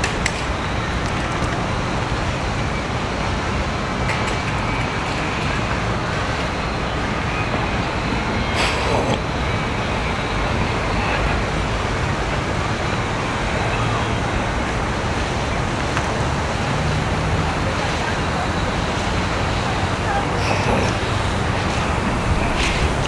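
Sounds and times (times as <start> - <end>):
city road traffic hum: 0.0 - 23.0.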